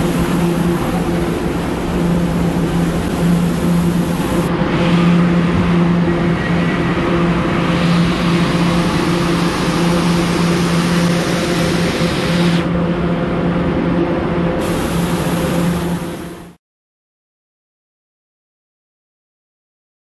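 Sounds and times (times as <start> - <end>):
electrical hum: 0.0 - 16.6
subway train rumbling and hissing: 0.0 - 16.6.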